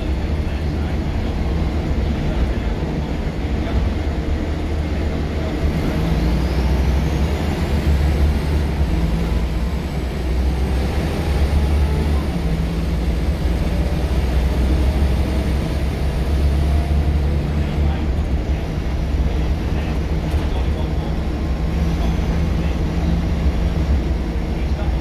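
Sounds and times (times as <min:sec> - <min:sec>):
bus engine drone: 0:00.0 - 0:25.0
road noise: 0:00.0 - 0:25.0.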